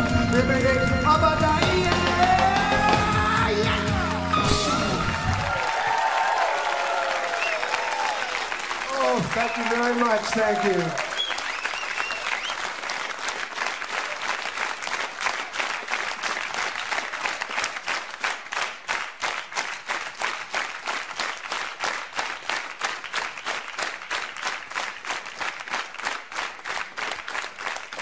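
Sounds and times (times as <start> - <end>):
audience clapping: 1.5 - 28.0.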